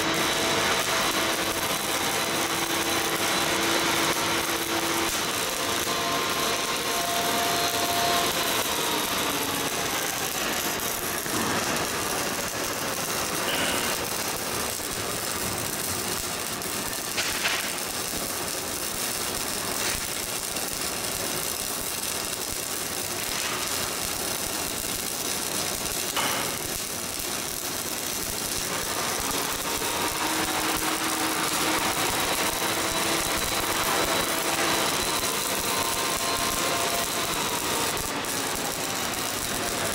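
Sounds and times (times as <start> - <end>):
sharp welding pops: 0.0 - 39.9
welding arc crackling hiss: 0.0 - 39.9.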